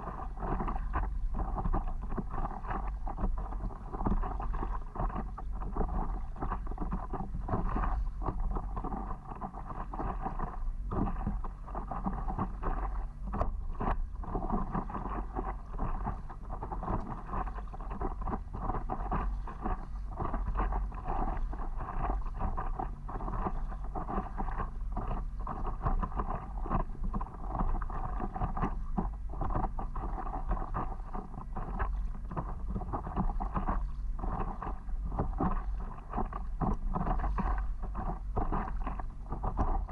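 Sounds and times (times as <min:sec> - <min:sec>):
water splashing around paddleboard: 0:00.0 - 0:39.9
wind rumbling on microphone: 0:00.0 - 0:39.9.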